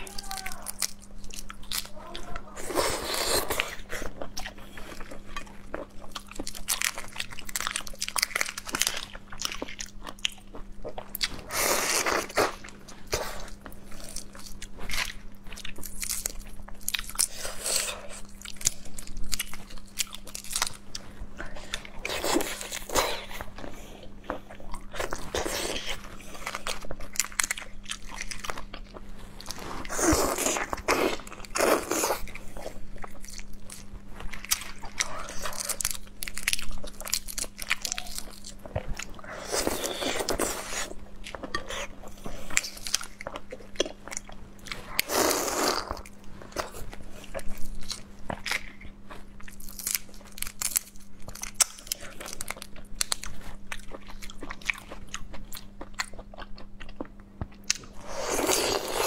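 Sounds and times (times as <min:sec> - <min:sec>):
chewing: 0:00.0 - 0:59.0.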